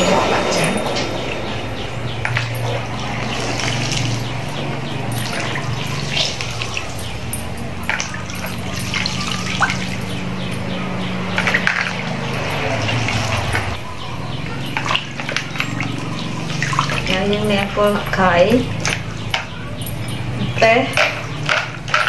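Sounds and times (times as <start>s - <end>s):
water sloshing and dripping: 0.0s - 13.8s, 14.4s - 22.0s.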